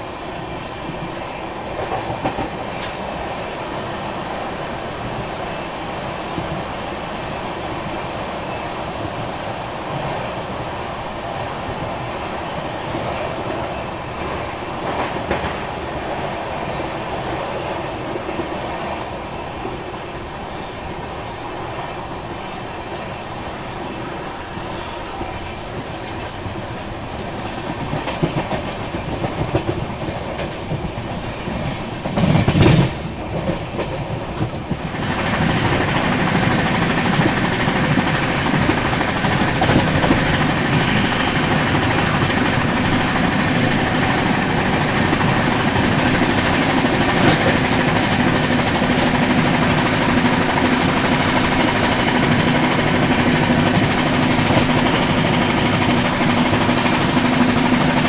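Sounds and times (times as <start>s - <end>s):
rushing wind: 0.0s - 58.0s
train wheels rumbling and clattering: 0.0s - 58.0s.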